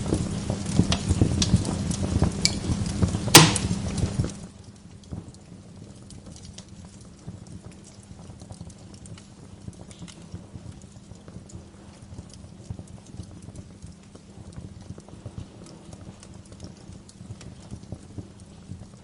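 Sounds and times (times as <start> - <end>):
log fire crackling and popping: 0.0 - 19.0.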